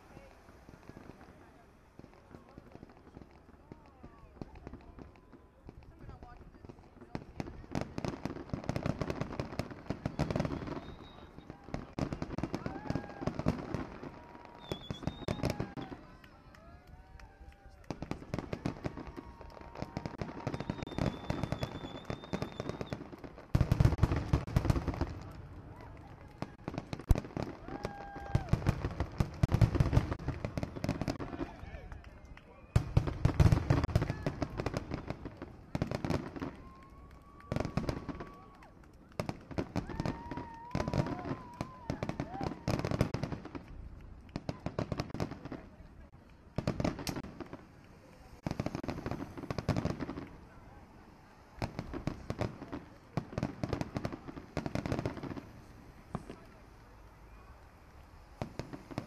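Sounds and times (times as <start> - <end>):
fireworks heavy bangs: 0.0 - 31.9, 32.7 - 59.0
fireworks crackling pops: 0.0 - 59.0.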